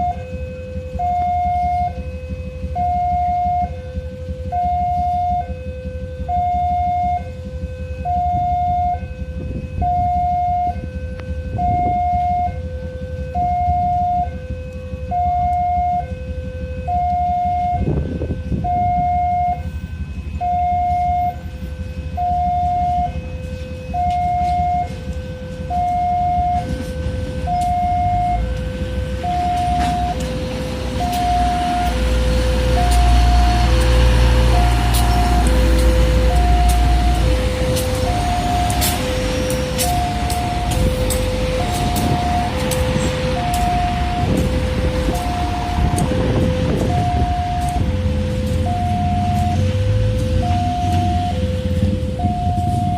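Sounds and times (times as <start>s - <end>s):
low rumble: 0.0s - 52.9s
train approaching: 0.0s - 52.9s
two-tone level crossing alarm: 0.0s - 52.9s.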